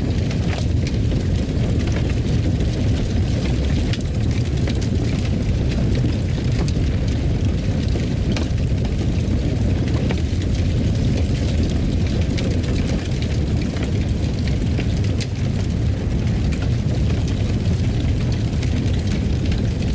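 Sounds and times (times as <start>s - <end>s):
fire crackling and popping: 0.0s - 19.9s
fire rumbling in a fireplace: 0.0s - 19.9s.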